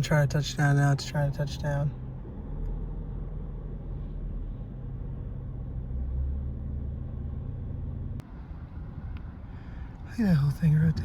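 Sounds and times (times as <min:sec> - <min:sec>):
low rumble of running vehicle: 0:00.0 - 0:11.0.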